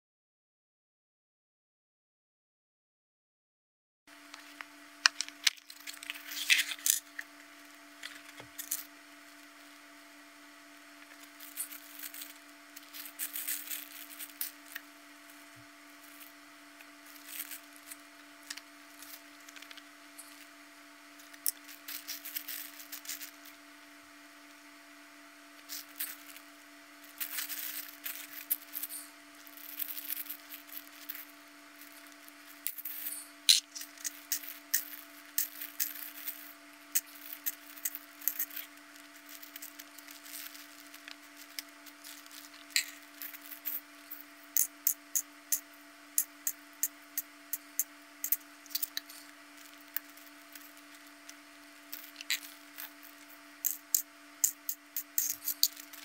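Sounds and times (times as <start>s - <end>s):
steady low hum: 4.1s - 56.0s.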